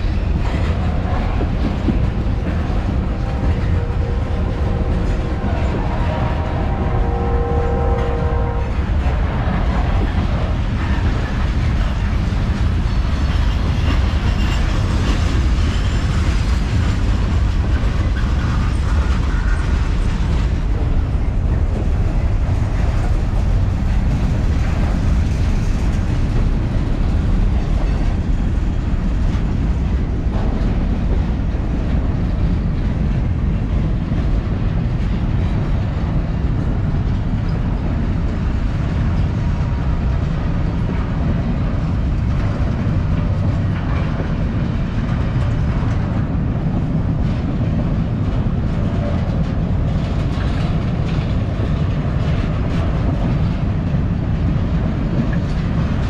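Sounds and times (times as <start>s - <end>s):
freight cars rumbling on rails: 0.0s - 56.0s.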